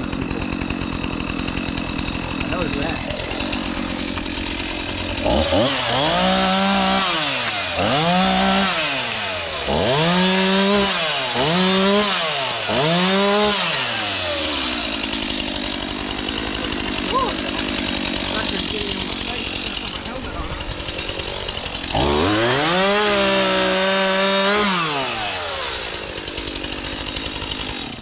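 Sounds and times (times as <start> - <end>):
chainsaw revving: 0.0 - 28.0.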